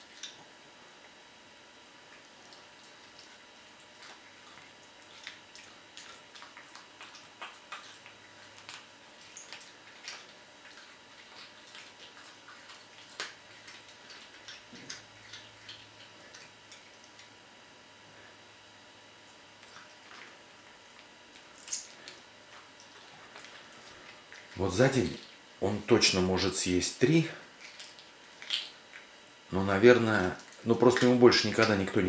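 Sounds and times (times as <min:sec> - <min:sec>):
cat chewing and crunching: 0:00.0 - 0:18.4, 0:19.1 - 0:26.2, 0:27.1 - 0:32.0.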